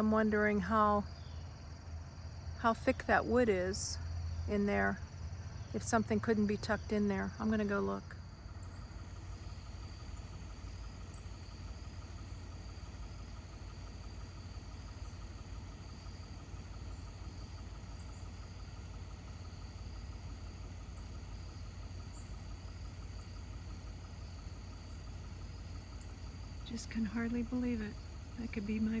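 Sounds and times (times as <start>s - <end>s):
crickets chirring: 0.0s - 29.0s
low steady rumble: 0.0s - 29.0s.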